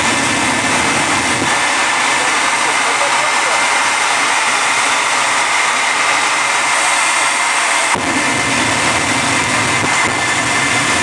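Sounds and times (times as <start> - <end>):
jet engines whining: 0.0 - 11.0
low rumble: 0.0 - 11.0.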